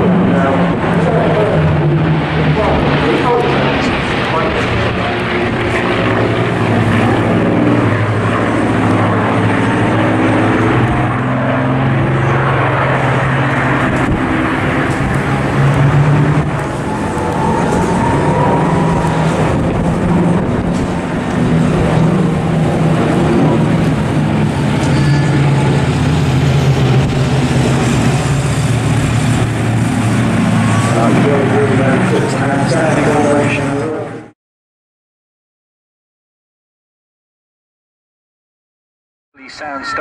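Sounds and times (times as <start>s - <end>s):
propeller plane engines droning: 0.0s - 34.4s, 39.4s - 40.0s.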